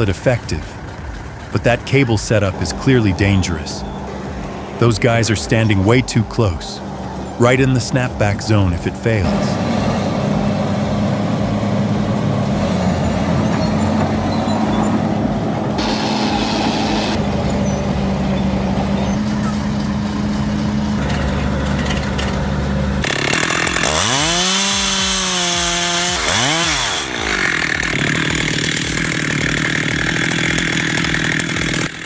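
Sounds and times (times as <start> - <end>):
chainsaw revving: 0.0 - 17.2, 20.0 - 32.0
low engine drone: 0.0 - 32.0.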